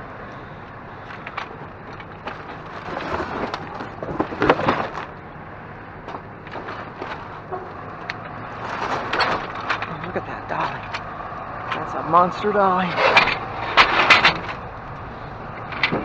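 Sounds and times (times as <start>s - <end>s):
metal dolly knocking and scraping: 0.9s - 16.0s.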